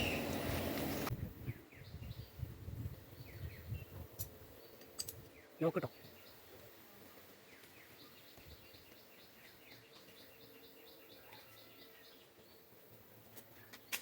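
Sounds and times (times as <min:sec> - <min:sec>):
faint bird chirping: 0:01.4 - 0:14.0.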